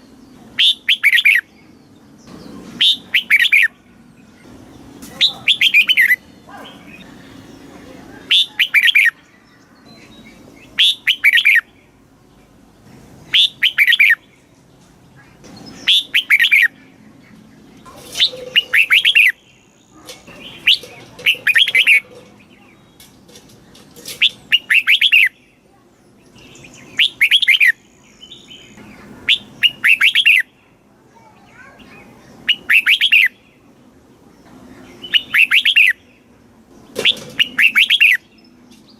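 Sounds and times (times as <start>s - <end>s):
bird warbling song: 0.0s - 38.9s.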